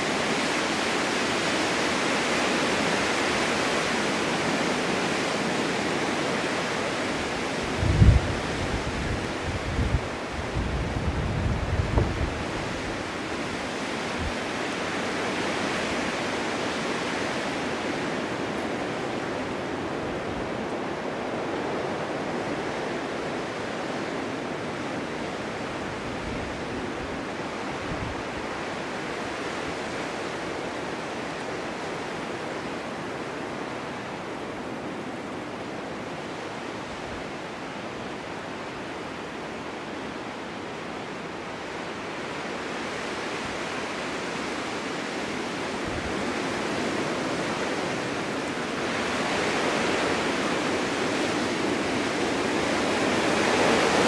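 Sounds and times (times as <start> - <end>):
snowstorm wind blowing: 0.0 - 54.0.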